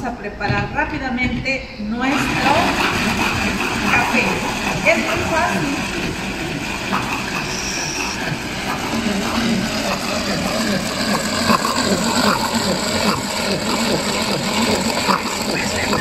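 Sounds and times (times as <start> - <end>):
hand-crank mixer gears whirring: 2.1 - 16.0
whisks churning liquid: 2.1 - 16.0.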